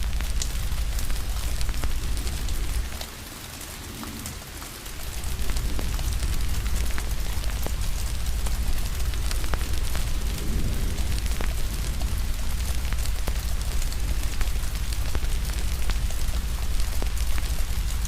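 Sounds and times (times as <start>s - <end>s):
deep low rumble: 0.0s - 3.0s, 5.0s - 18.0s
fire crackling and popping: 0.0s - 18.0s
steady rain: 0.0s - 18.0s.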